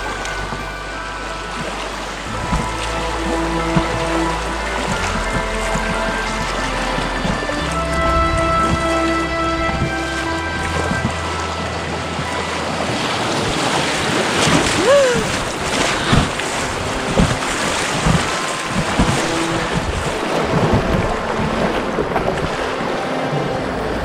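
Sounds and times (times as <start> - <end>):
river water rushing and splashing: 0.0 - 24.0
waves thumping on hull: 0.0 - 24.0
wind buffeting microphone: 0.0 - 24.0.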